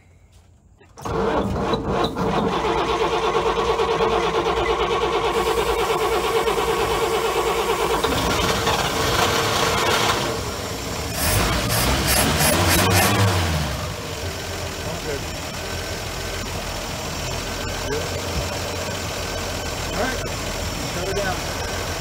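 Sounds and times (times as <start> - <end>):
engine cranking and running: 0.9 - 22.0.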